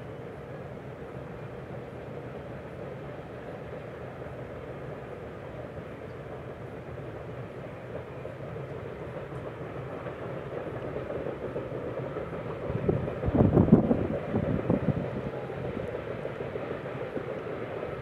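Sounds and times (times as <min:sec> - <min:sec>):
distant freight train rumbling: 0:00.0 - 0:18.0.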